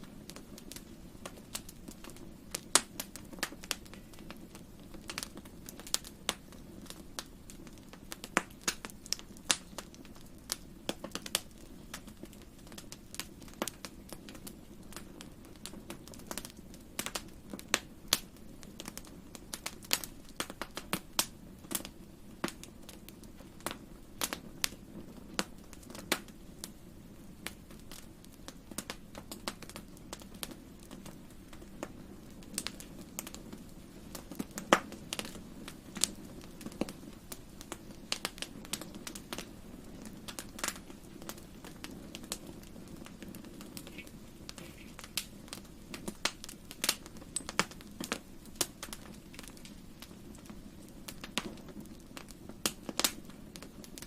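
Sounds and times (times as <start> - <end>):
low background noise: 0.0 - 54.0
wood fire crackling: 0.0 - 54.0.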